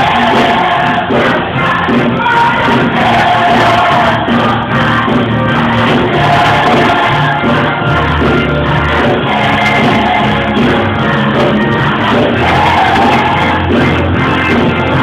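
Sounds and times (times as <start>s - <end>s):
choir singing with instruments: 0.0s - 15.0s.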